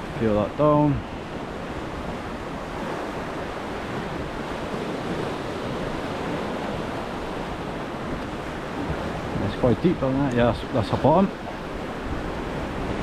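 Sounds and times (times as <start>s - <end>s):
surf breaking over rocks: 0.0s - 13.0s.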